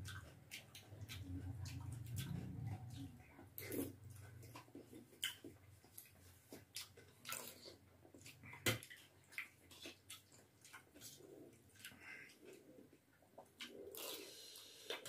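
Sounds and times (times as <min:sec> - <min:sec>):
slurping and chewing noodles: 0:00.0 - 0:15.0.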